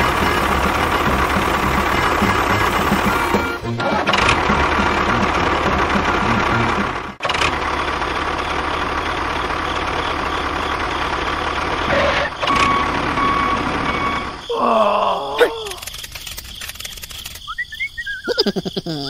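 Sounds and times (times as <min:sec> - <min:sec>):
tractor engine running: 0:00.0 - 0:14.4, 0:15.8 - 0:18.8.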